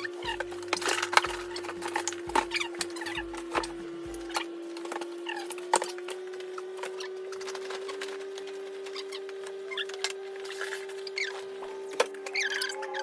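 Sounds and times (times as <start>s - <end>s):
plastic clicks and squeaks: 0.0s - 13.0s
steady low hum: 0.0s - 13.0s.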